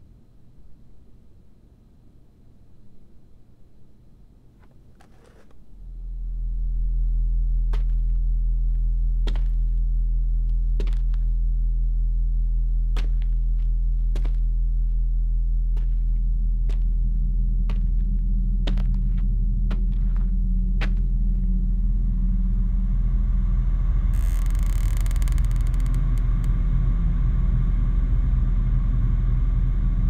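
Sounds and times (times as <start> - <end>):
deep low drone: 5.6 - 30.0.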